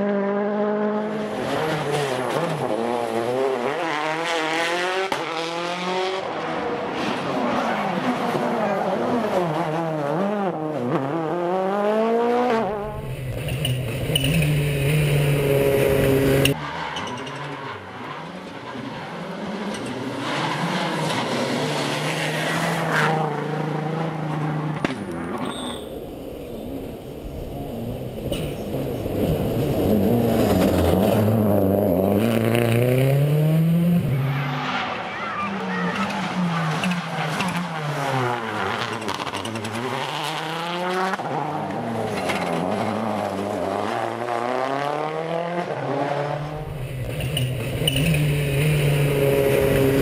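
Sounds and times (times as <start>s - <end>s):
rally car engines revving: 0.0s - 50.0s.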